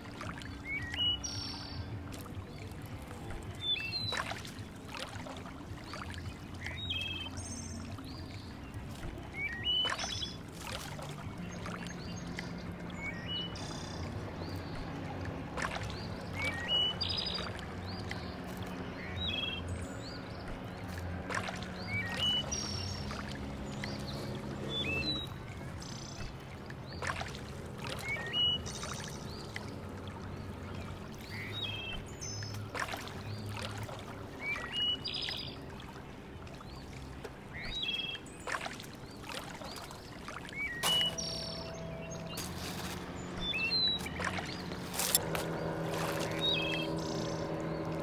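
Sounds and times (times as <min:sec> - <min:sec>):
birds chirping: 0:00.0 - 0:48.0
water lapping at shore: 0:00.0 - 0:48.0.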